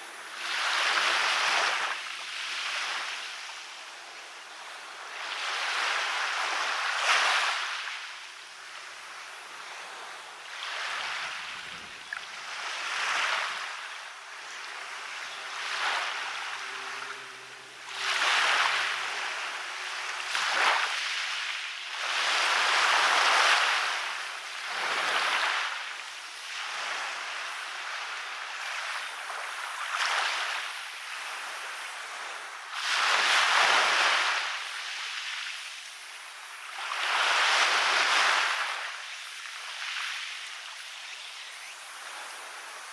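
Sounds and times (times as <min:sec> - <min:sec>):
waves breaking on a beach: 0:00.0 - 0:42.9.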